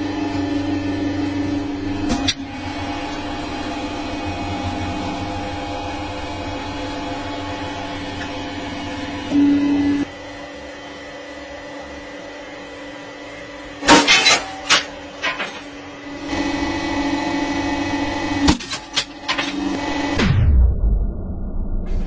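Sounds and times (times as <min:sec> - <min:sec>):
hydraulic press humming: 0:00.0 - 0:20.4.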